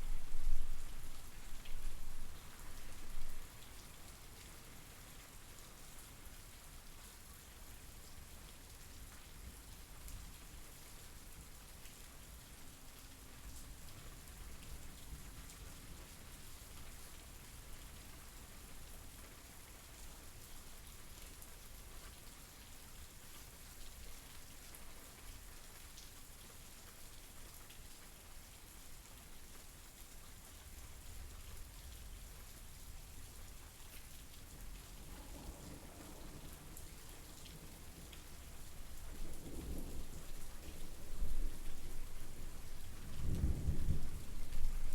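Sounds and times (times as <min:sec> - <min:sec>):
soft rainfall: 0:00.0 - 0:44.9.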